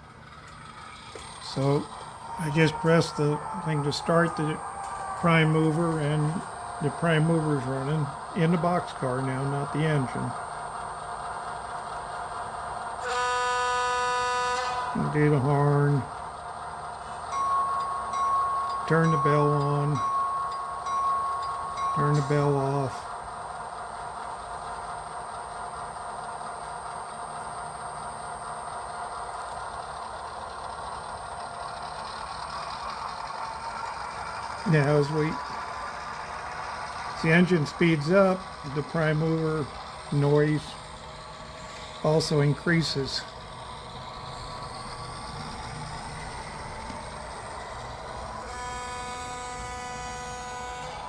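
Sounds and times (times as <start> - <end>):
diesel locomotive idling through speaker: 0.0 - 51.0
high-pitched whine: 0.0 - 51.0.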